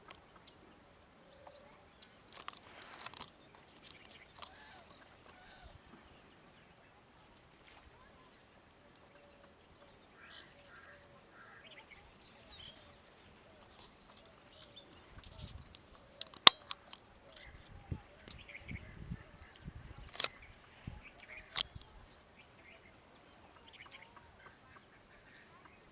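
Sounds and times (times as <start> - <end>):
faint bird calls: 0.0 - 25.9.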